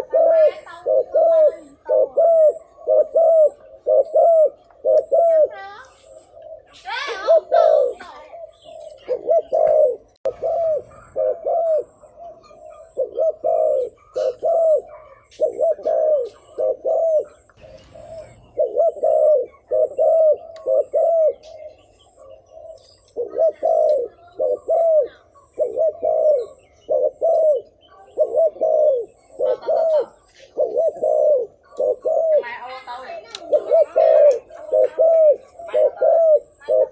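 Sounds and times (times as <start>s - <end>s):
dove cooing: 0.0s - 36.9s.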